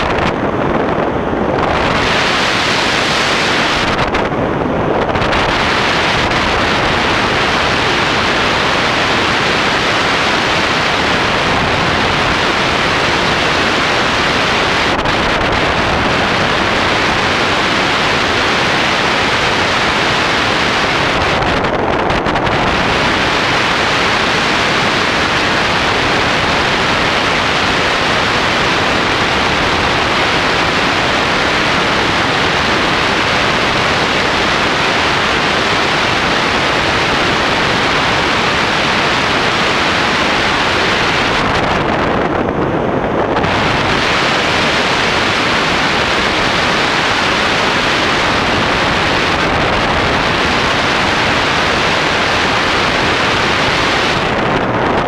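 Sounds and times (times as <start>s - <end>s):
airflow buffeting microphone: 0.0s - 55.0s.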